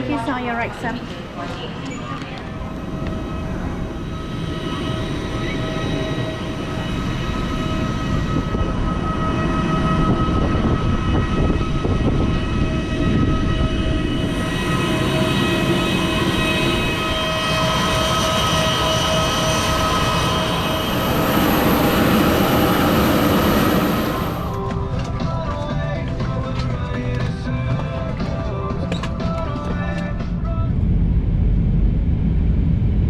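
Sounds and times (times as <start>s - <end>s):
steady whining tones: 0.0s - 27.4s
airliner engines rushing: 0.0s - 33.0s.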